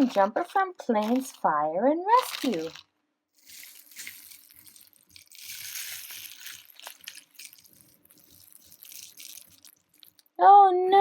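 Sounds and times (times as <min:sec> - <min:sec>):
small gritty crunches: 0:00.0 - 0:01.4, 0:02.1 - 0:10.3.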